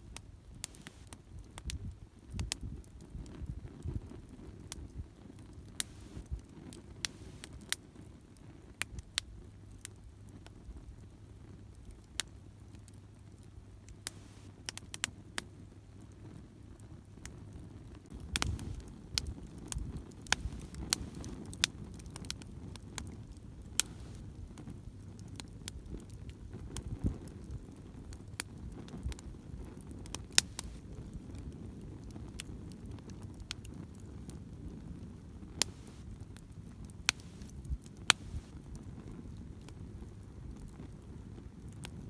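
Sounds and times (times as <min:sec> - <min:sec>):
campfire crackling and popping: 0:00.0 - 0:42.0
low rumble of burning fire: 0:00.0 - 0:42.0.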